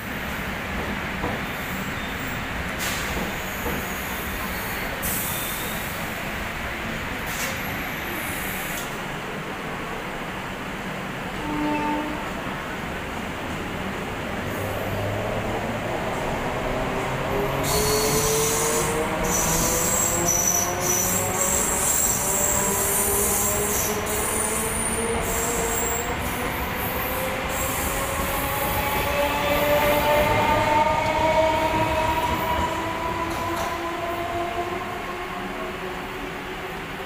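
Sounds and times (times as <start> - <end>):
rumble of train coaches: 0.0 - 37.0.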